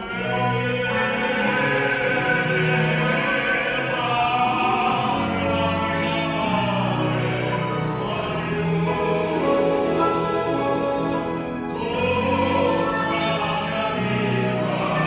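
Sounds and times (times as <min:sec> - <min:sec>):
operatic voices singing: 0:00.0 - 0:15.0.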